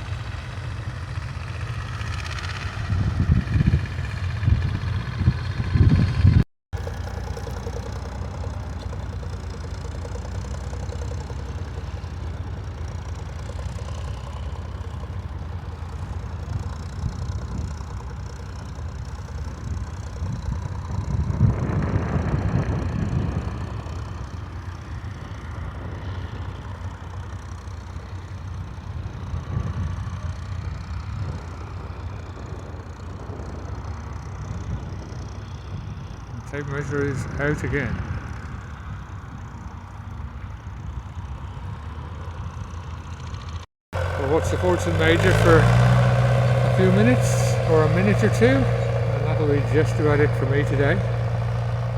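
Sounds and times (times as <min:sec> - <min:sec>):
tractor engine rumbling: 0:00.0 - 0:51.9.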